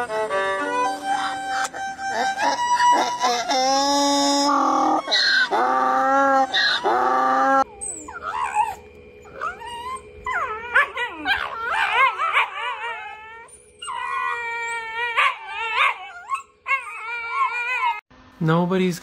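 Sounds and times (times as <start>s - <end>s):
donkey braying: 0.0s - 18.0s
dogs yowling and howling: 1.0s - 18.0s.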